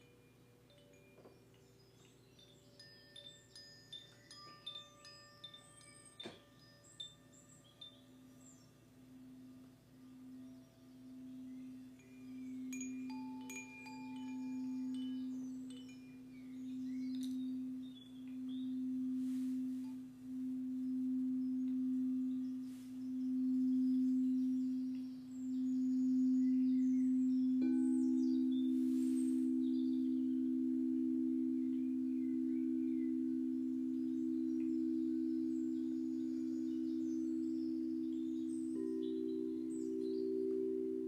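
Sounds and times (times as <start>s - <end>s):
faint high chime tinkles: 0.0s - 41.0s
singing bowl ringing: 0.0s - 41.0s
higher singing bowl tone: 4.0s - 41.0s.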